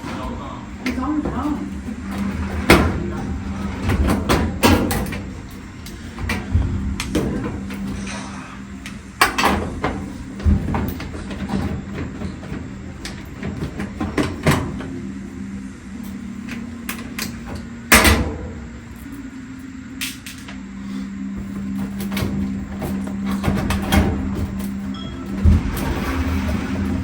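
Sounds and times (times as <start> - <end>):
dryer panels clunking and scraping: 0.0 - 19.3, 21.2 - 27.0
steady low hum: 0.0 - 27.0.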